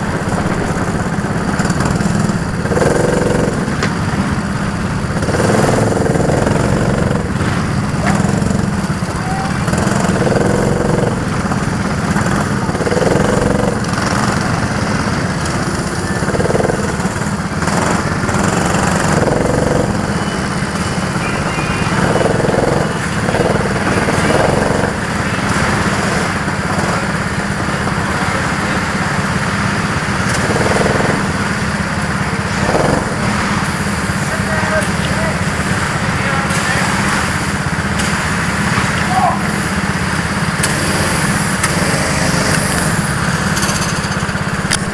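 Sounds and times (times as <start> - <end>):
go-kart engines running: 0.0 - 44.9.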